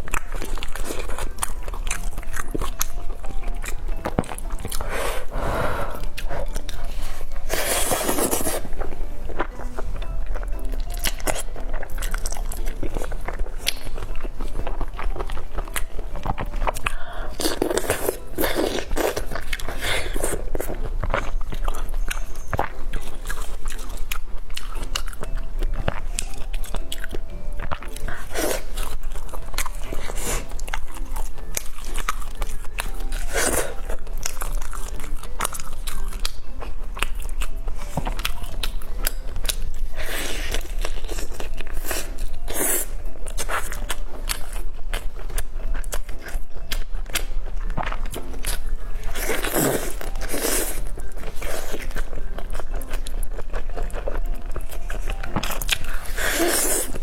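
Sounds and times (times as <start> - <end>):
biting and chewing crunches: 0.0 - 57.0.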